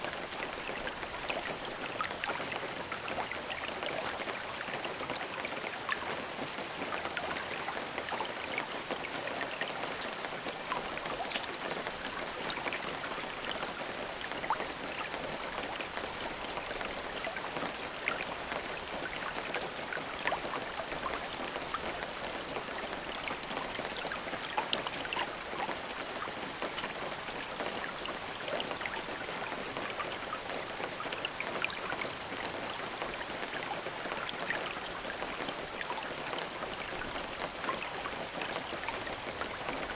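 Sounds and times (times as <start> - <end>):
rain falling and pattering: 0.0 - 39.9.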